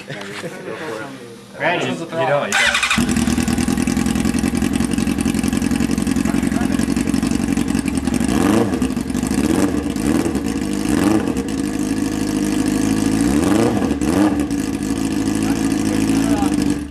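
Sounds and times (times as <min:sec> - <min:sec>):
race car engine revving: 0:02.5 - 0:16.9.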